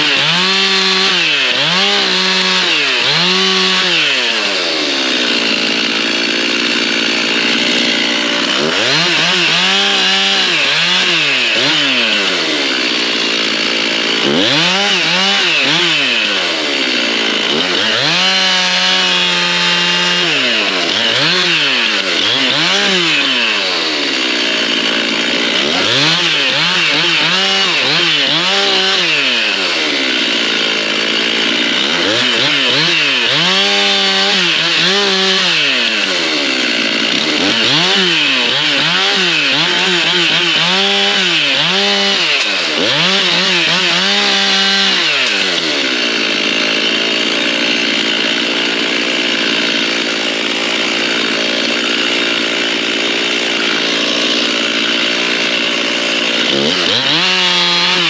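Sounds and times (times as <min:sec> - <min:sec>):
chainsaw revving and cutting: 0:00.0 - 0:58.0.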